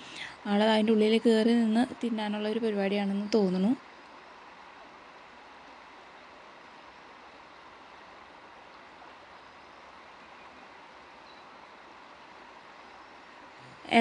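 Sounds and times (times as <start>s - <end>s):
faint outdoor rushing noise: 0.0s - 14.0s.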